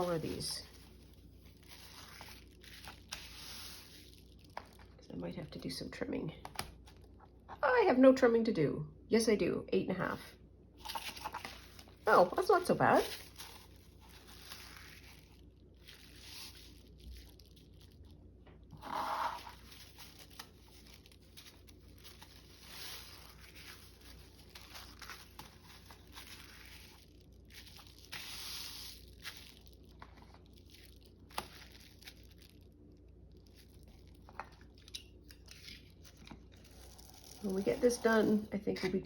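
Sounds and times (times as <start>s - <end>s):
paper rustling: 0.0s - 5.0s, 10.8s - 18.0s, 18.6s - 32.6s, 33.5s - 39.0s.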